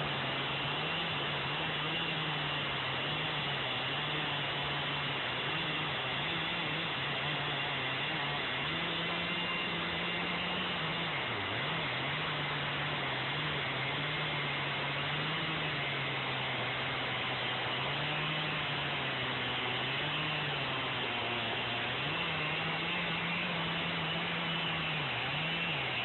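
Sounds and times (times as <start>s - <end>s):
chainsaw cutting log: 0.0s - 26.0s.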